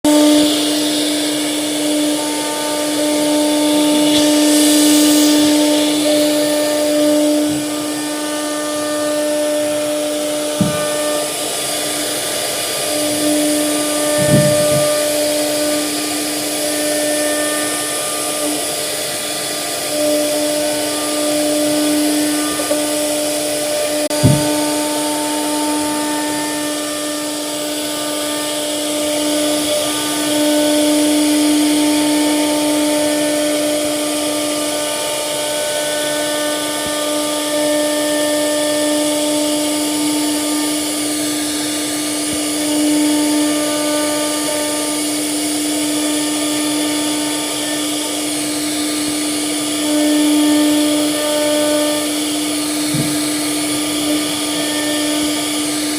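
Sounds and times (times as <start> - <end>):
router spindle carving wood: 0.0 - 55.9.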